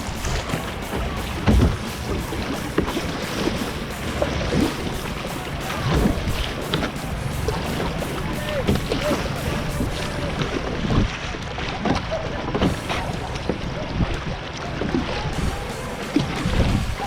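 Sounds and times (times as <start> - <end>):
wind buffeting microphone: 0.0 - 11.2, 12.7 - 17.0
rushing water: 0.0 - 17.0.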